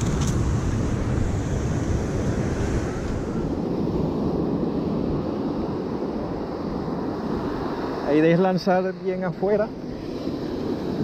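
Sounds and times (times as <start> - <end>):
ocean surf breaking on beach: 0.0 - 11.0
wind rumbling on microphone: 0.0 - 11.0.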